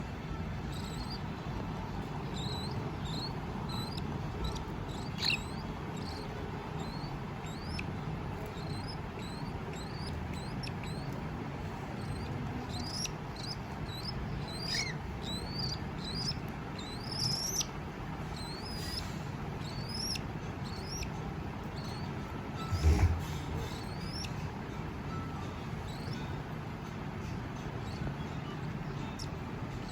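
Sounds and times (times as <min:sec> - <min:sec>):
cockatiels chirping: 0:00.1 - 0:26.4, 0:27.6 - 0:29.9.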